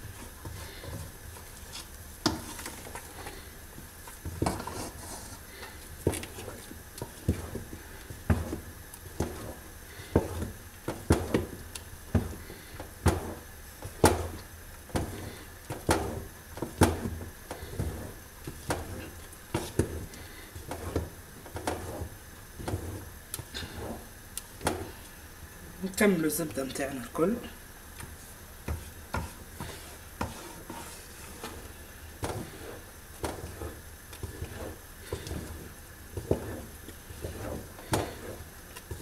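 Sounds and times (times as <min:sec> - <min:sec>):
wooden spoon scraping a pot: 0:00.0 - 0:25.2, 0:28.1 - 0:39.0.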